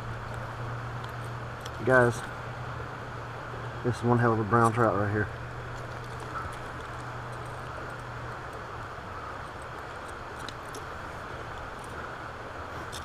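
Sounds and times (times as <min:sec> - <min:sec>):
flowing river water: 0:00.0 - 0:13.0
low hum: 0:00.0 - 0:13.0.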